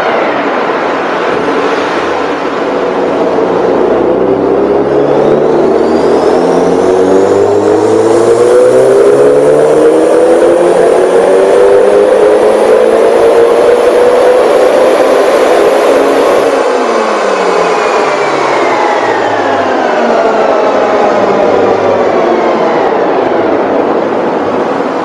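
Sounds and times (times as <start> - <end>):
car engine revving at full throttle: 0.0 - 25.0.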